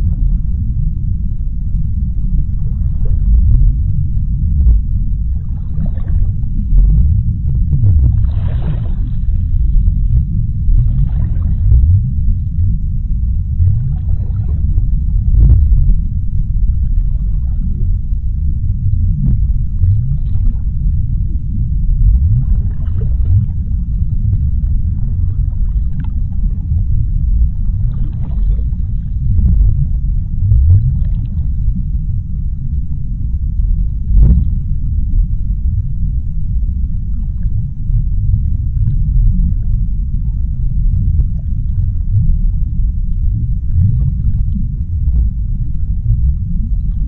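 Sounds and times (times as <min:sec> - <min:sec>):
deep underwater rumble: 0:00.0 - 0:47.0
faint underwater crackles: 0:00.0 - 0:47.0.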